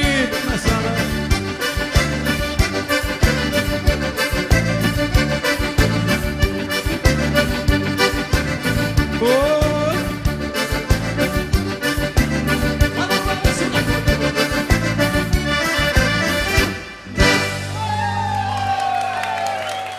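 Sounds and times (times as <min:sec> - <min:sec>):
bass and drum beat: 0:00.0 - 0:18.2
accordion dance band: 0:00.0 - 0:18.4.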